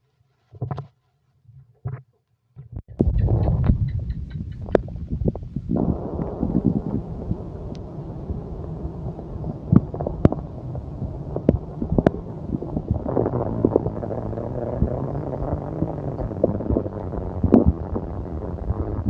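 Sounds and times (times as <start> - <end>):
stomach growling: 3.0 - 19.0.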